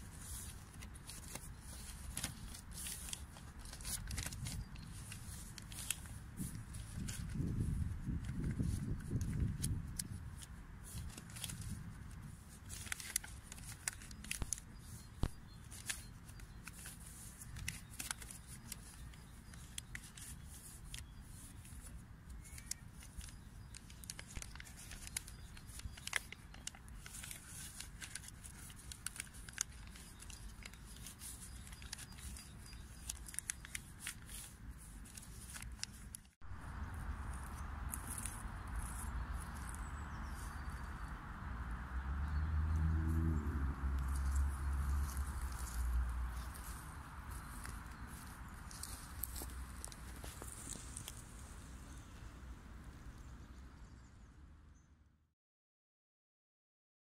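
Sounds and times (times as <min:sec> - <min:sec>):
paper crinkling and snapping: 0:00.0 - 0:40.8, 0:44.0 - 0:51.4.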